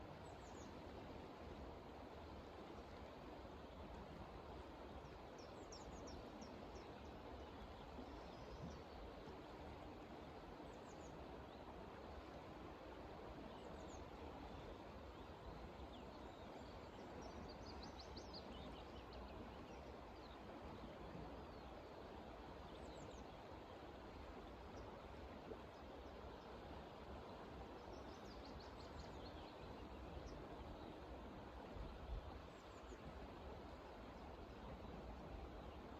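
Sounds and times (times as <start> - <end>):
steady low hiss: 0.0 - 35.9.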